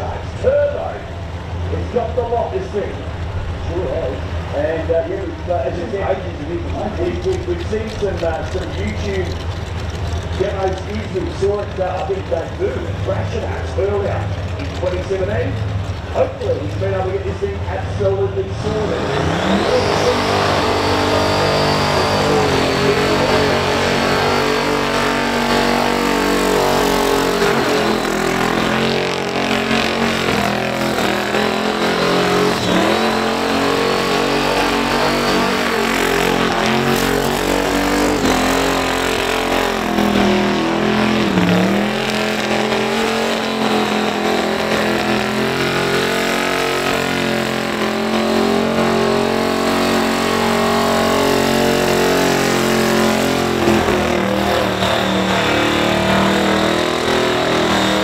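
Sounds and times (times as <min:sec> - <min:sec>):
car engine at high revs: 0:00.0 - 0:58.0
tyres spinning: 0:04.3 - 0:58.0.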